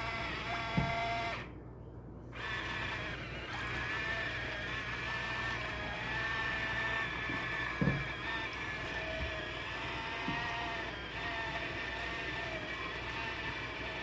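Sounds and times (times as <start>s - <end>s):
machine hum with whining tone: 0.0s - 1.6s, 2.2s - 14.0s.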